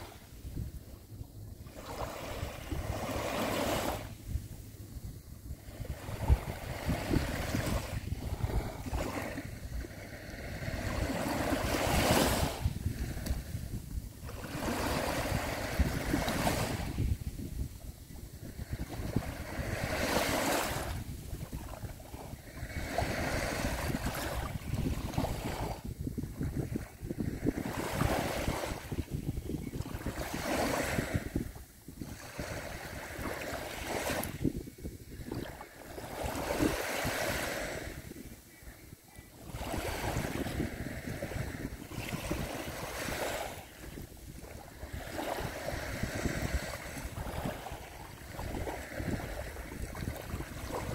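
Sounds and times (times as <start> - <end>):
waves washing onto shore: 0.0 - 0.8, 1.7 - 50.9
wind buffeting microphone: 0.0 - 50.9.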